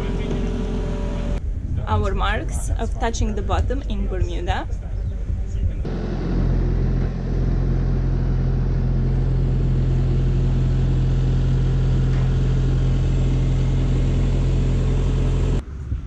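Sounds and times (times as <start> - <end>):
engine running steadily: 0.0 - 4.1, 4.7 - 15.7.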